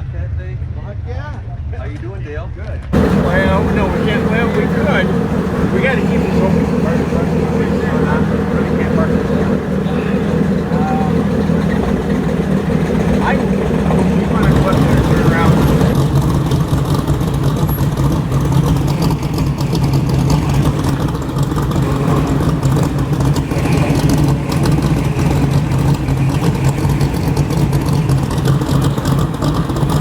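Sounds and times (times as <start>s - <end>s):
vehicle engine running: 3.0s - 30.0s.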